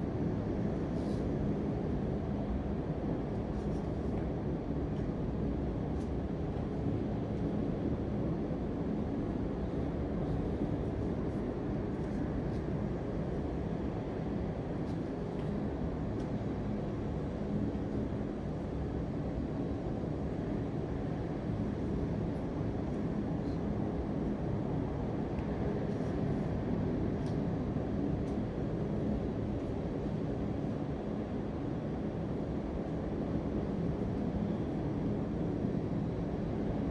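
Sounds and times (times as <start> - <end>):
faint hum: 0.0 - 36.9.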